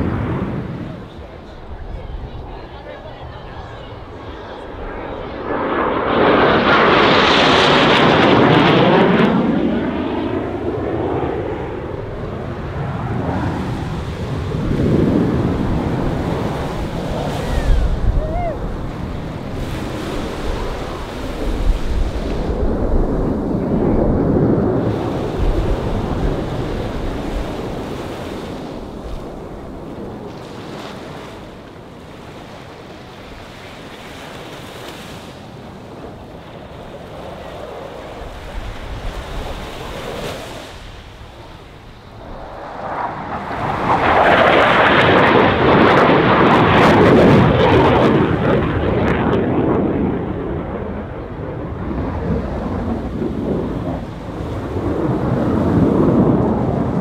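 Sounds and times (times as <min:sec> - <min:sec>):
jet engines roaring: 0:00.0 - 0:34.0, 0:35.4 - 0:57.0.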